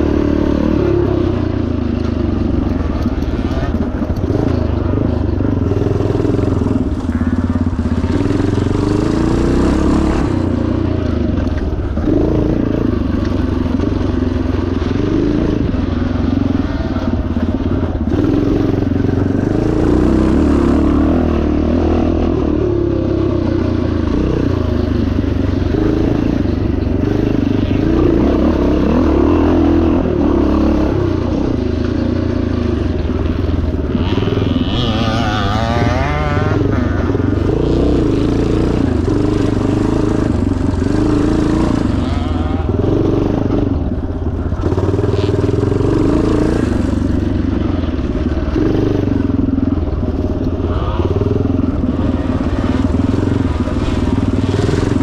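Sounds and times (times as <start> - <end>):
motorcycle engine under load: 0.0 - 55.0.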